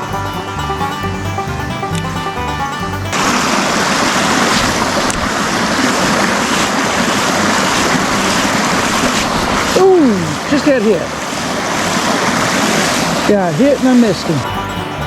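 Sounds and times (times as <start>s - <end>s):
bluegrass banjo music: 0.0s - 15.0s
stream water flowing: 0.0s - 15.0s.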